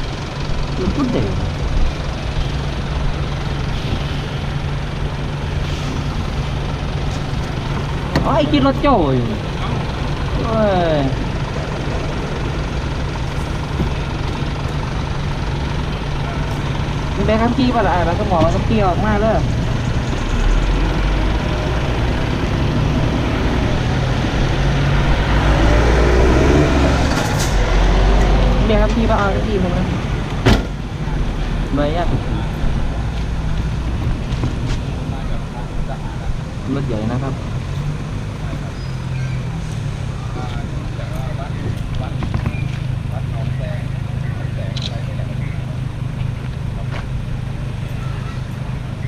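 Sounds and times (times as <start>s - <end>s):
low engine hum: 0.0s - 49.0s.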